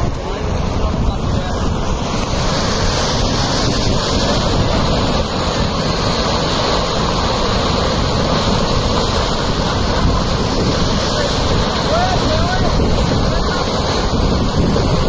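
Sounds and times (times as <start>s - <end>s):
floodwater rushing: 0.0s - 15.0s
wind buffeting microphone: 0.0s - 15.0s.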